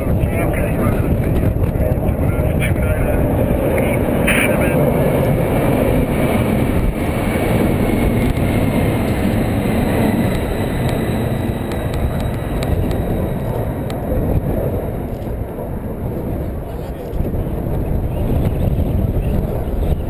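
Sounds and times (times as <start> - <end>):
faint falling whine: 0.0 - 16.2
jet aircraft rumbling: 0.0 - 20.0.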